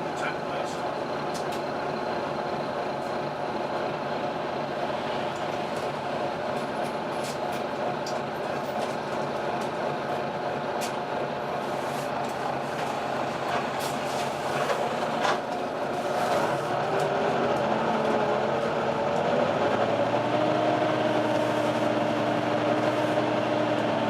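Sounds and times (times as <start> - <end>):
bus engine drone: 0.0 - 24.0.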